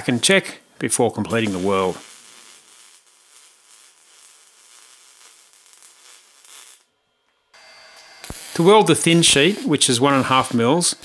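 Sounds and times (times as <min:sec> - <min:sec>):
welding arc crackling hiss: 0:00.0 - 0:06.9, 0:07.6 - 0:11.0.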